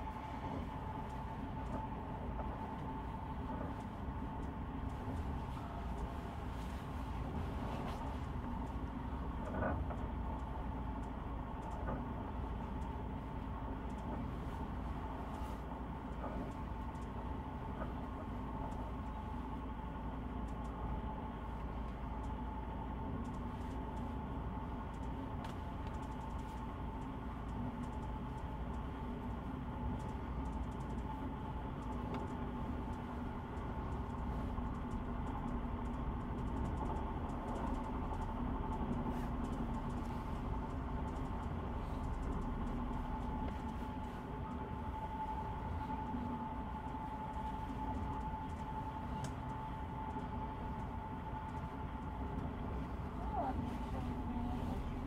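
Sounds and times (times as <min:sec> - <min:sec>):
train rumble inside carriage: 0:00.0 - 0:55.0
light clicks and rattles: 0:00.6 - 0:55.0.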